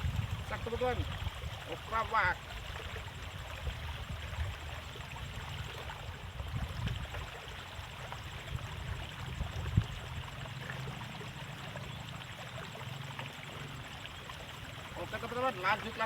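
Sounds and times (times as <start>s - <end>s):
water trickling in a ditch: 0.0s - 16.0s.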